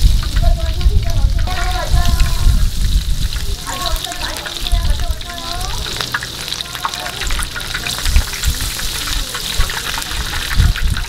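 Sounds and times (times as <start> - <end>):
shrimp deep-frying in oil: 0.0 - 11.0.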